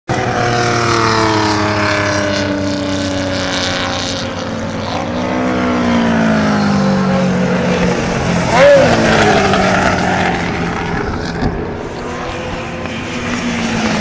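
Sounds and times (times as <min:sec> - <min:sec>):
racing motorcycles passing at speed: 0:00.1 - 0:14.0.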